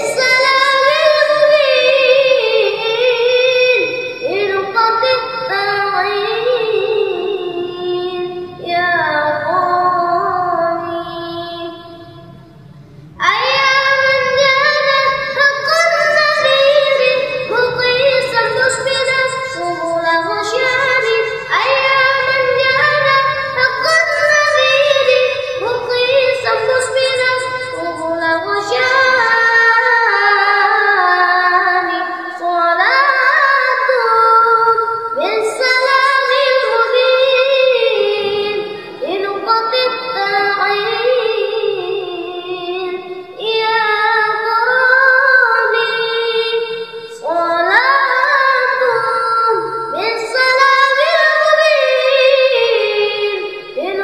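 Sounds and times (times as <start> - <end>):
boy singing: 0.0 - 12.3, 13.2 - 54.0.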